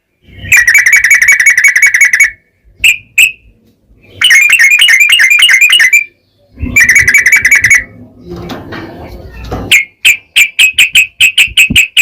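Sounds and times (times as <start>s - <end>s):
bird singing rattling song: 0.0s - 12.0s.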